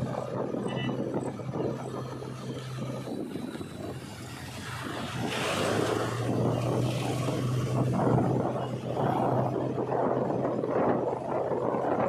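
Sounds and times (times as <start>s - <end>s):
diesel engine running: 0.0s - 12.0s
tyre and road noise: 0.0s - 12.0s.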